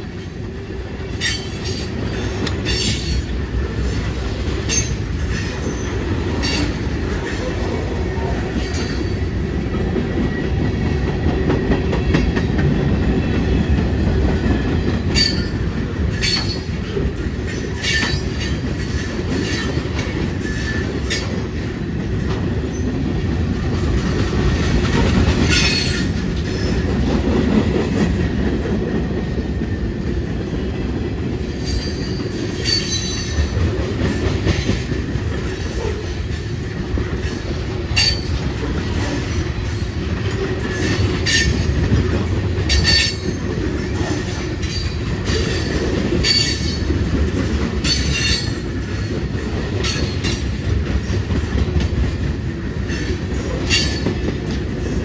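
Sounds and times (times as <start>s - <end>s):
train cars rumbling on rails: 0.0s - 55.0s.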